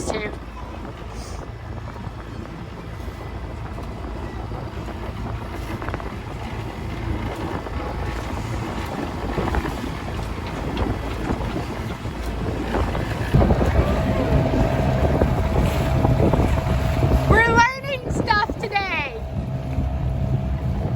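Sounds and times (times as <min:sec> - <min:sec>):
water noise: 0:00.0 - 0:20.9
wind buffeting microphone: 0:00.0 - 0:20.9.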